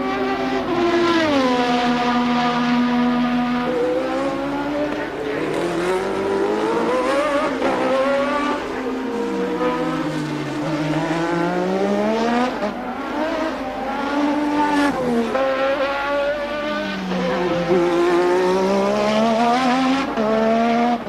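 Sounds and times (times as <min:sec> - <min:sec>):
race car engine: 0:00.0 - 0:21.0.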